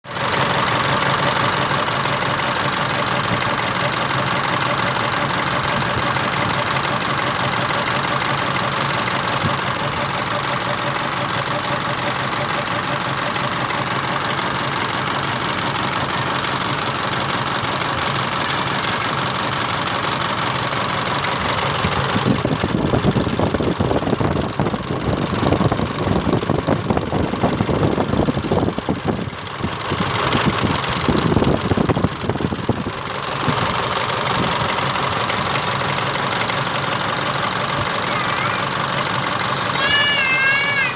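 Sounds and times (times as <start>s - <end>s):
engine idling with knock: 0.0s - 40.9s.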